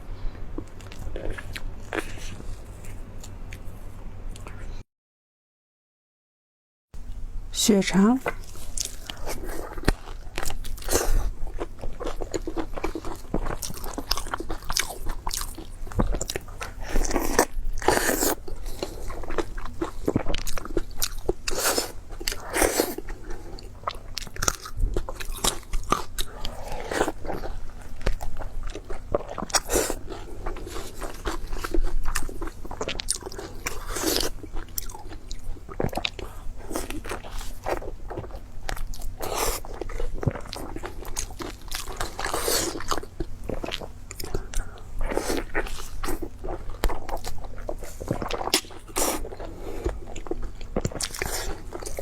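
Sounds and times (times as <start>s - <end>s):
person chewing crunchy food: 0.6s - 4.6s, 8.2s - 52.0s.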